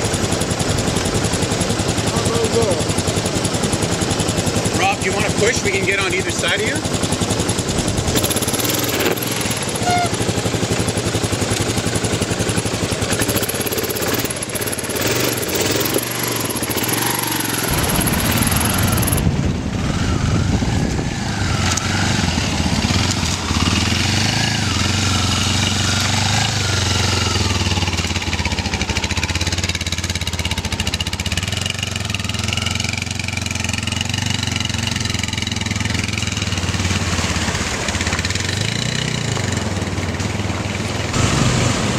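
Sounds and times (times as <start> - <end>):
motorcycle engine at low revs: 0.0 - 41.9.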